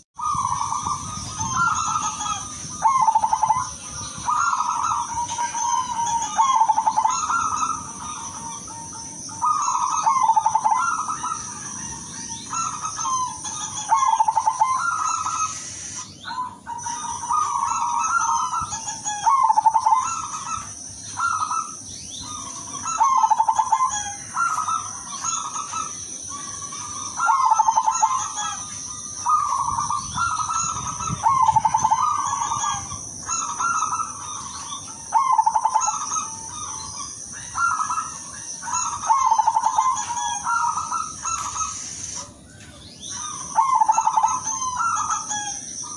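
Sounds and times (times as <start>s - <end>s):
dove cooing: 0.0s - 45.9s
high-pitched whine: 0.0s - 45.9s.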